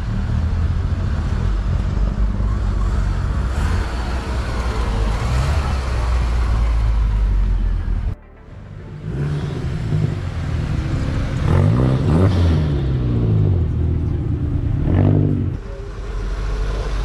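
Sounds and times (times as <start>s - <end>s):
engine revving: 0.0s - 8.2s, 8.9s - 17.0s
cars driving by: 0.0s - 17.0s.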